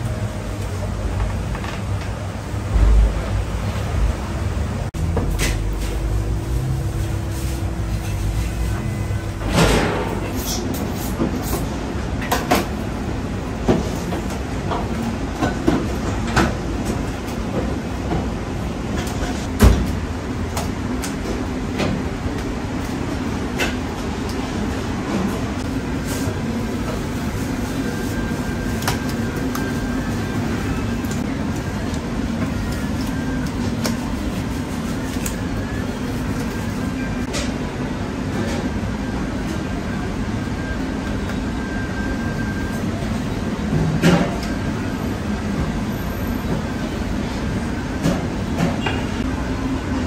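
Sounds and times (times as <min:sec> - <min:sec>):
kitchen mechanical rumble: 0:00.0 - 0:50.0.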